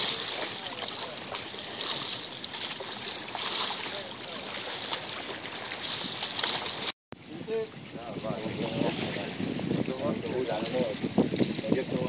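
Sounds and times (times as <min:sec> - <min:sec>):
sea water lapping: 0:00.0 - 0:12.0.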